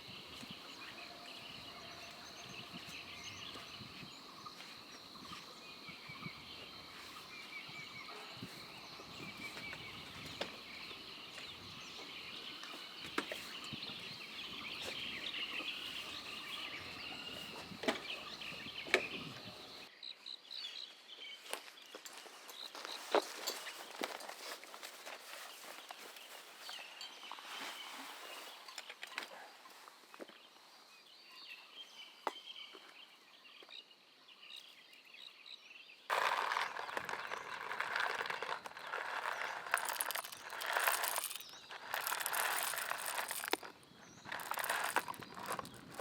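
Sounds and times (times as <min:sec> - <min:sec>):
birds chirping and twittering: 0:00.0 - 0:24.6, 0:25.3 - 0:46.0.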